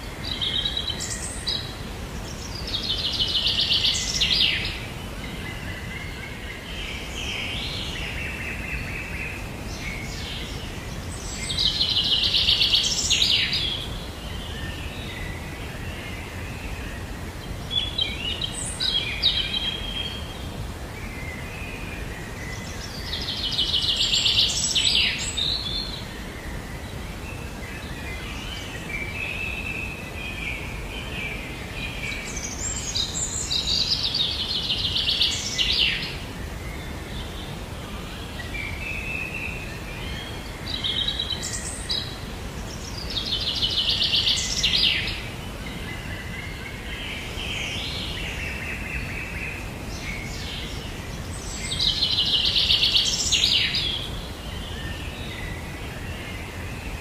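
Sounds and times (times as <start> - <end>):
low outdoor background noise: 0.0 - 57.0.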